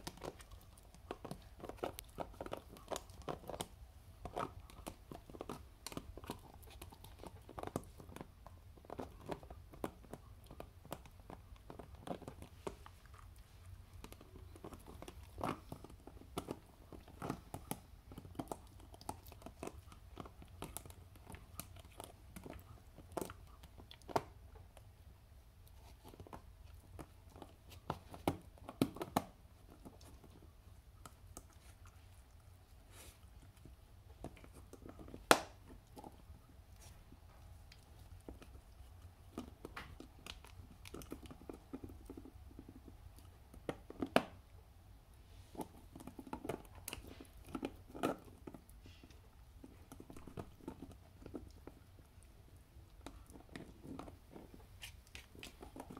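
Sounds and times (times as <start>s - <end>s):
dog teeth crunching plastic: 0.0s - 24.9s, 25.6s - 32.5s, 33.2s - 44.6s, 45.5s - 55.9s.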